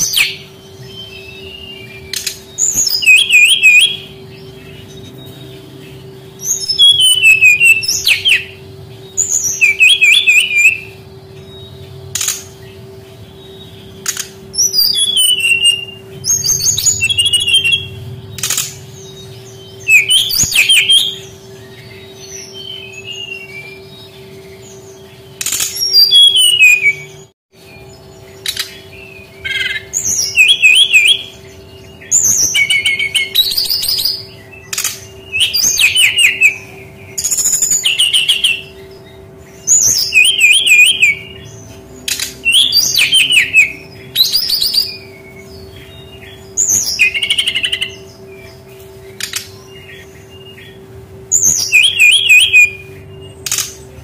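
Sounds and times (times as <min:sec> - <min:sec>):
bird twittering song: 0:00.0 - 0:54.0
low hum: 0:00.0 - 0:54.0.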